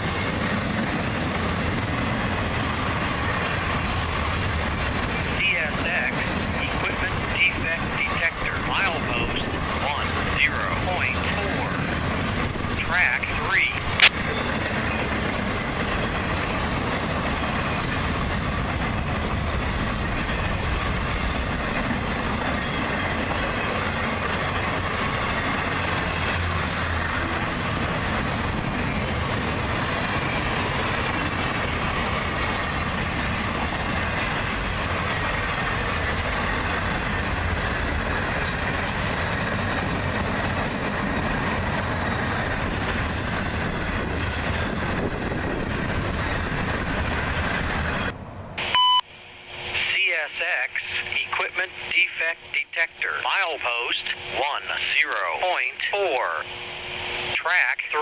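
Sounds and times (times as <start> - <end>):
freight train wheels rumbling: 0.0 - 50.3.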